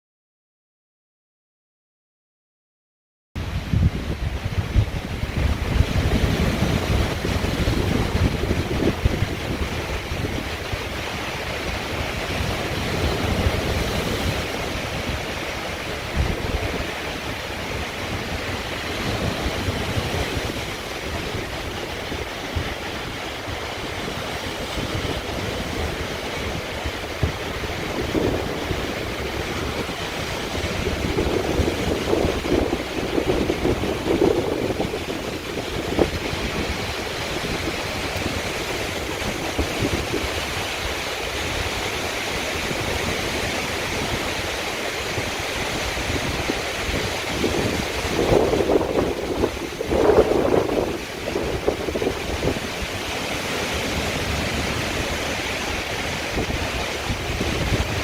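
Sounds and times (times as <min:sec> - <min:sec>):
surf breaking on rocks: 0:03.4 - 0:58.0
wind gusting against microphone: 0:03.4 - 0:58.0.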